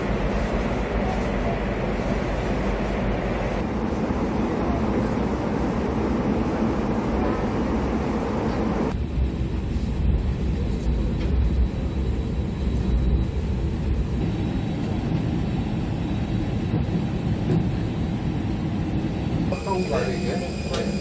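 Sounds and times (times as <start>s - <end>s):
aircraft cabin low rumble: 0.0s - 21.0s.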